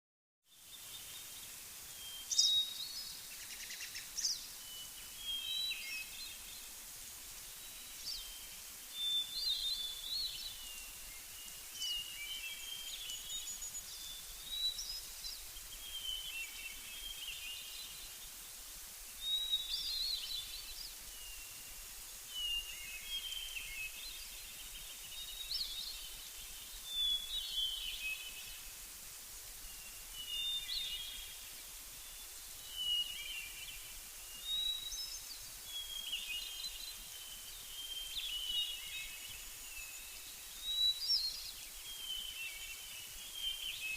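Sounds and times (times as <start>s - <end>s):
high outdoor hiss: 0.5s - 43.9s
songbird chirping: 0.5s - 43.9s.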